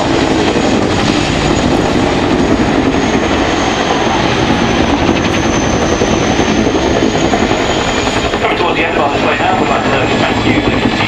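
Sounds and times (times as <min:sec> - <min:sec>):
helicopter rotor blades beating: 0:00.0 - 0:11.0
high engine whine: 0:00.0 - 0:11.0.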